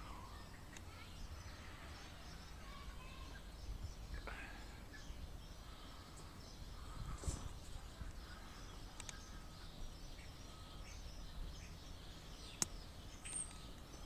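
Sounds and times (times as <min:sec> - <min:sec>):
birds chirping in the distance: 0:00.0 - 0:14.0.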